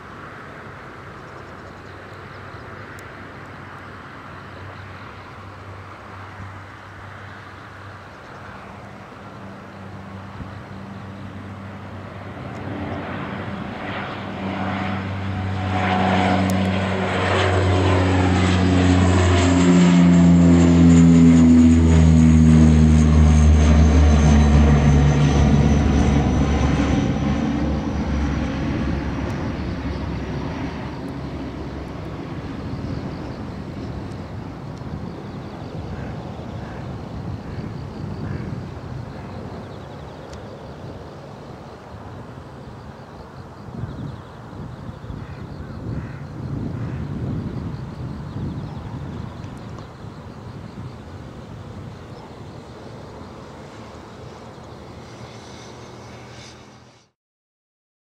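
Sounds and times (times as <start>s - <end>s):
faint high turbine whine: 0.0s - 57.2s
turboprop plane droning: 0.0s - 57.2s.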